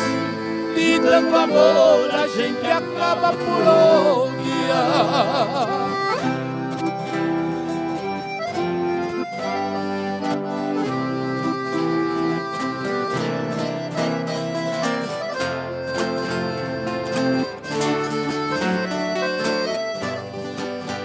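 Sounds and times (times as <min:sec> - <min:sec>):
held melody notes: 0:00.0 - 0:21.0
strummed guitar rhythm: 0:00.0 - 0:21.0.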